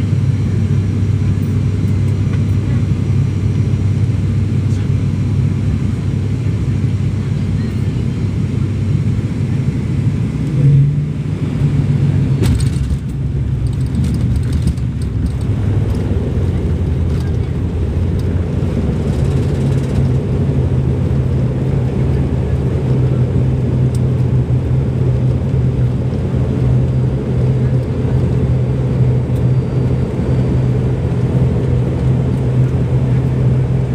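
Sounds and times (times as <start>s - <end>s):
propeller drone in airplane cabin: 0.0s - 33.9s.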